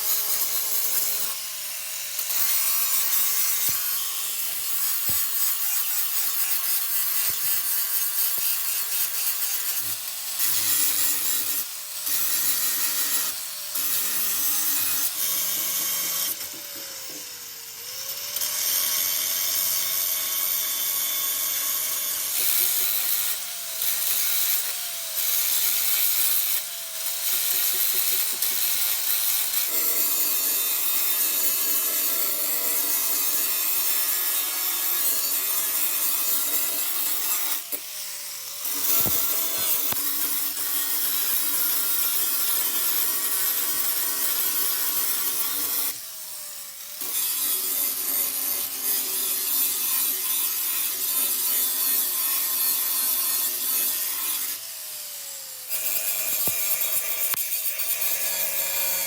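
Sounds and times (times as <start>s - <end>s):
power tool grinding: 0.0s - 59.0s.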